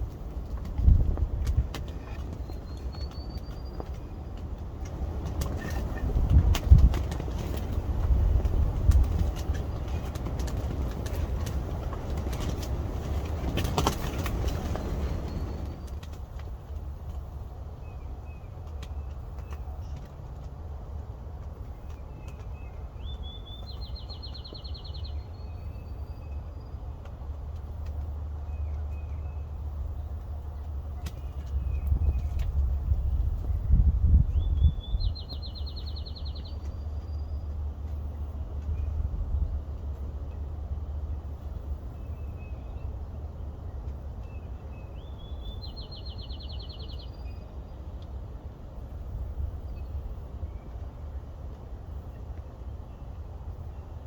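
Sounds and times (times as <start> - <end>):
steady low rumble: 0.0 - 18.3, 23.9 - 54.0
songbird trill: 0.0 - 20.4, 21.6 - 48.2.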